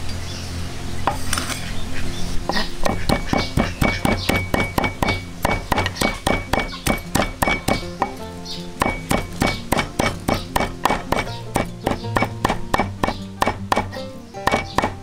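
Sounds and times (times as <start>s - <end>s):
background music with clicking beat: 2.5s - 15.0s.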